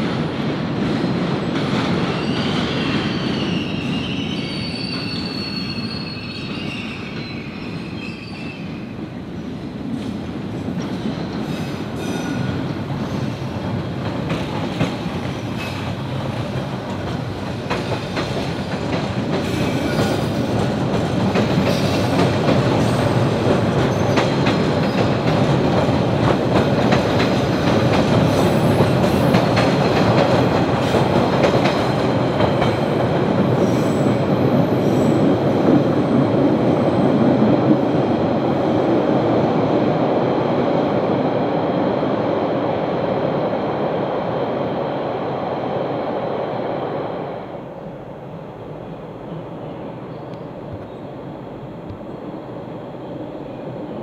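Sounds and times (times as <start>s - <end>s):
subway train running on rails: 0.0s - 54.0s.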